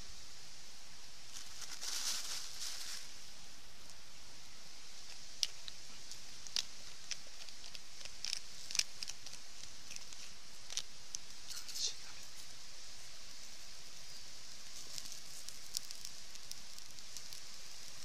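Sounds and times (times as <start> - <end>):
campfire crackling and popping: 1.3 - 18.0.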